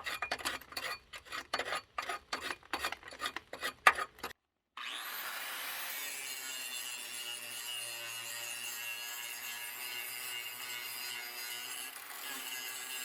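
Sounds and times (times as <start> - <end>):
grinder scraping steel: 0.0 - 4.4, 5.8 - 13.0.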